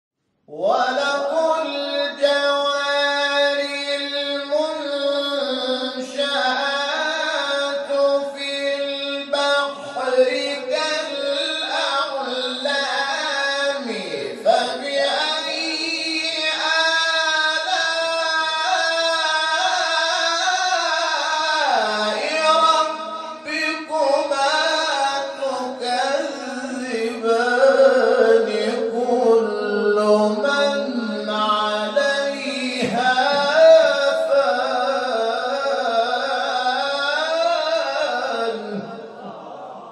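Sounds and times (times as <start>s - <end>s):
man chanting recitation: 0.5s - 39.9s.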